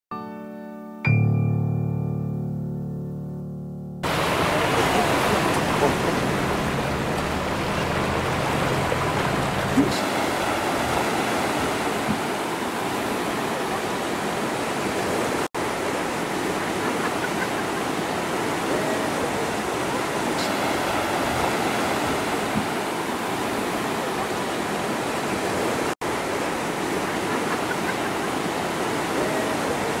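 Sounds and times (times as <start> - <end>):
rushing water: 4.0 - 30.0.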